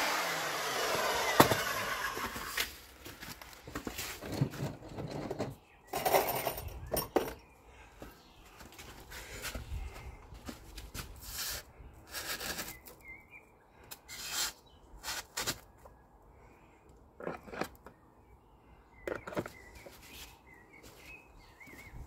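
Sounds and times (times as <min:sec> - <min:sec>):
birds chirping faintly: 0:03.0 - 0:22.0.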